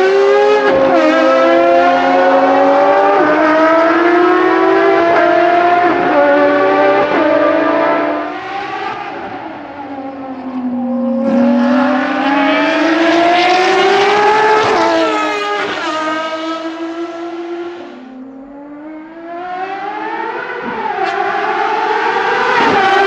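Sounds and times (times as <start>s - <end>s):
racing car engine accelerating: 0.0s - 23.0s.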